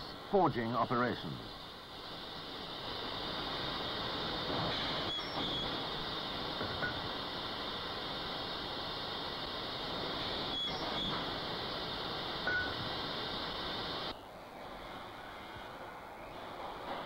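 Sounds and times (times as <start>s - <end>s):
faint steady tone: 0.0s - 17.0s
steady hissing noise: 0.0s - 17.0s.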